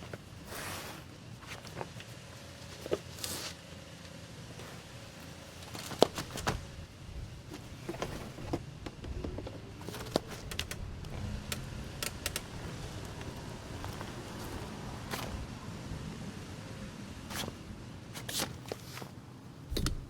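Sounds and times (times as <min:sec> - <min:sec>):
low steady hum: 0:03.8 - 0:20.0.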